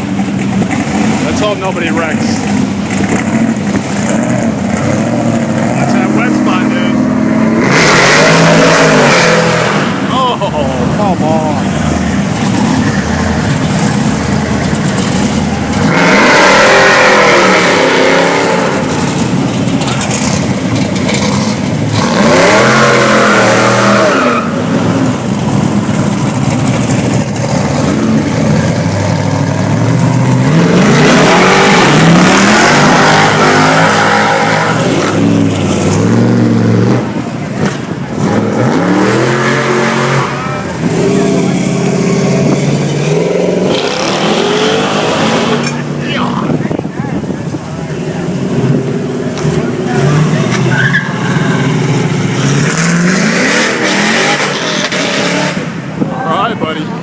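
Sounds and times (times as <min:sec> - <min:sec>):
hot rod engines revving: 0:00.0 - 0:57.0.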